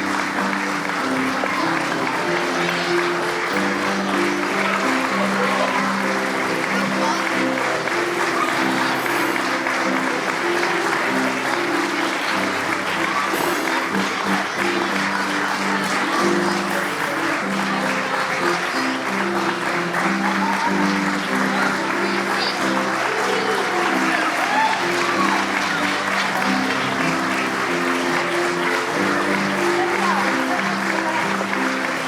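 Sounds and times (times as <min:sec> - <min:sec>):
audience applauding: 0:00.0 - 0:32.0
instrumental music: 0:00.0 - 0:32.0.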